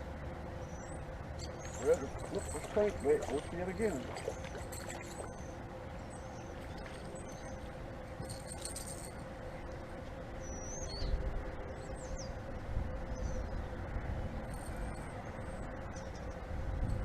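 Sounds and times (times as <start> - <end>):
wind rumble on microphone: 1.4 - 17.0.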